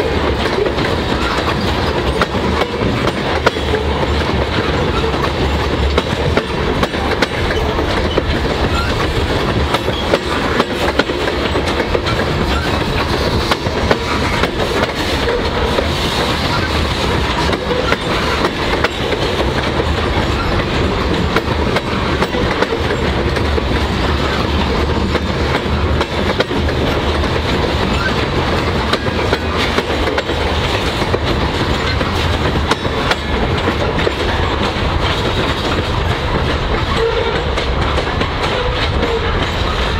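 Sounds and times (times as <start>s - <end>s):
train wheels rumbling on rail: 0.0s - 39.9s
wheels clickety-clack over rail: 0.0s - 39.9s.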